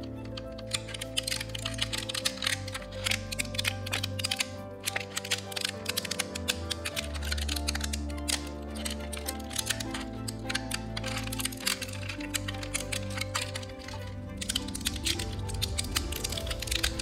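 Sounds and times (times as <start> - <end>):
background music: 0.0 - 17.0
crackle of sharp clicks: 0.1 - 17.0.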